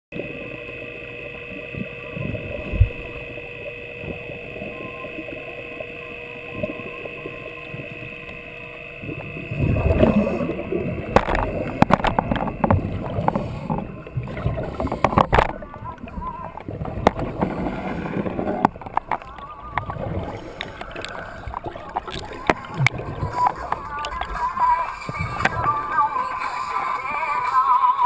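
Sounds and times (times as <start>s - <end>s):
bubbling and crackling clicks: 0.1s - 28.0s
underwater hum with constant tones: 0.1s - 28.0s
low rumble: 0.3s - 26.1s.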